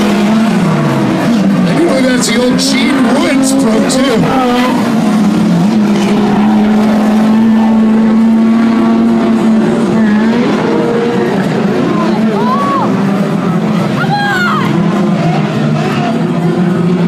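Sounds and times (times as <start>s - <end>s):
race truck engines: 0.0s - 17.0s.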